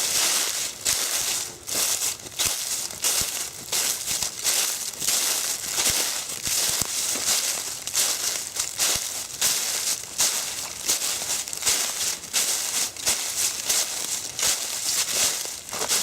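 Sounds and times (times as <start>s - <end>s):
footsteps crunching through leaves: 0.0s - 16.0s.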